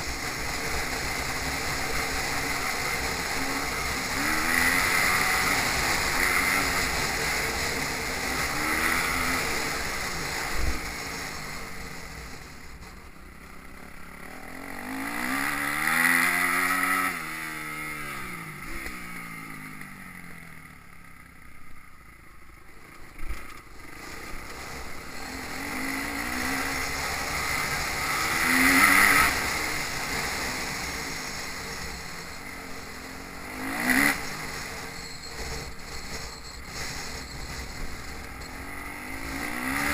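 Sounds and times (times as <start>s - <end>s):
motocross bikes revving and passing: 0.0s - 11.4s, 14.2s - 19.4s, 23.3s - 39.9s.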